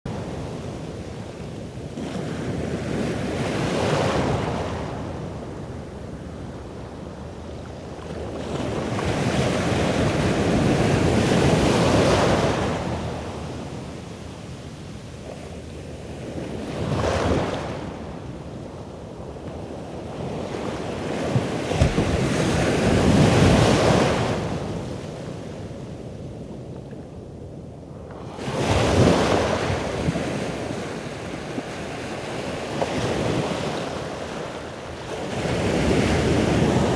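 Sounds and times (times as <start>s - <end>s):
waves breaking on beach: 0.1s - 26.4s, 28.2s - 36.9s
wind buffeting microphone: 0.1s - 36.9s.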